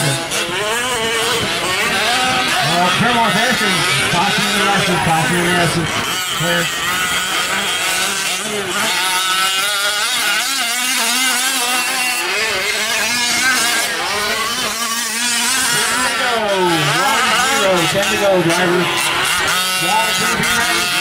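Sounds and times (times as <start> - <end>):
small two-stroke engines revving: 0.0 - 21.0.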